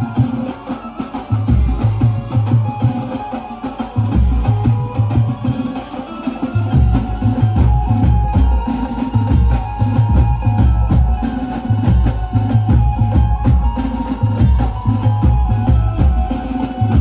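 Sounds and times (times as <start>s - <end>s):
band playing drums and cymbals: 0.0s - 17.0s
steady melody line: 0.0s - 17.0s.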